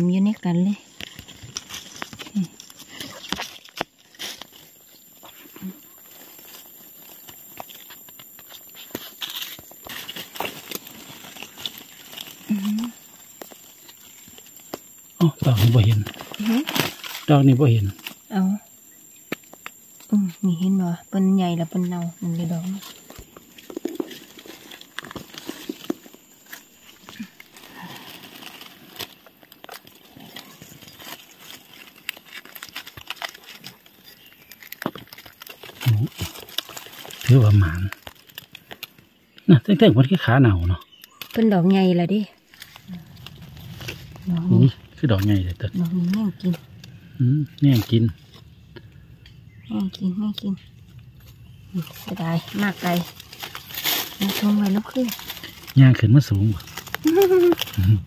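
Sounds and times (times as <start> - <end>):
dry leaves crackling and rustling: 0.0 - 58.0
sharp snaps and ticks: 0.3 - 20.8, 21.7 - 39.5, 40.8 - 58.0.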